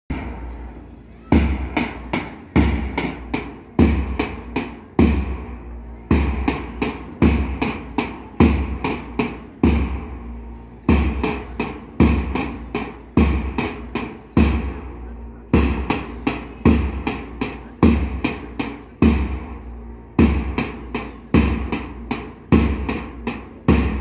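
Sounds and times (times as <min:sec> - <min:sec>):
repeating drum beat: 0:00.1 - 0:24.0.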